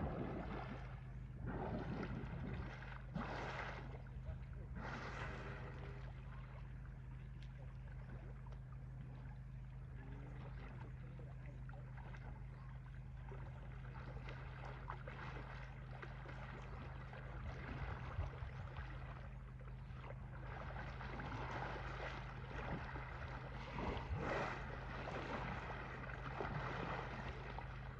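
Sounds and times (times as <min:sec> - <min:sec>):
low rumble: 0:00.0 - 0:27.9
water splashing and sloshing: 0:00.0 - 0:27.9.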